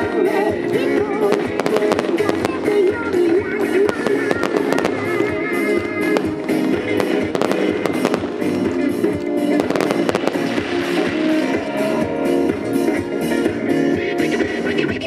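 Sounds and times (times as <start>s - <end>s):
fireworks bangs and pops: 0.0s - 13.6s
song playing: 0.0s - 15.0s.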